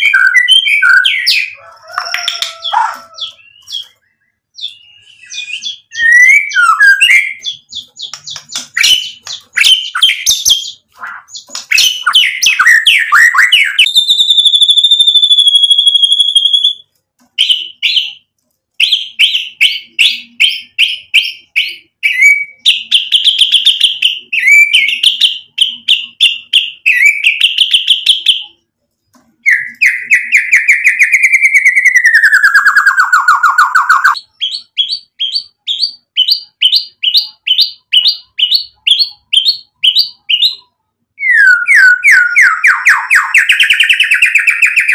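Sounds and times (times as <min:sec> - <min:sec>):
bird singing varied song: 0:00.0 - 0:44.9.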